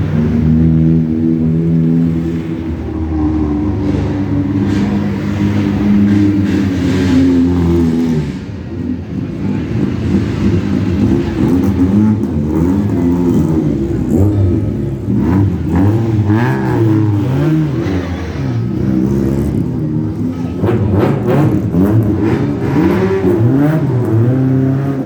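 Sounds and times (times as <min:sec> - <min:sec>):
sports car engines revving: 0:00.0 - 0:25.0.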